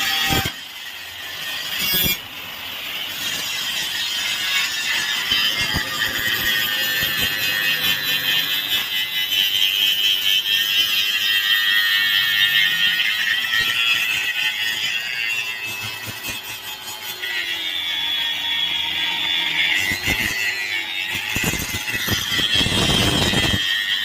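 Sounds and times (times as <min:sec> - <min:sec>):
welding arc hissing and crackling: 0:00.0 - 0:24.0.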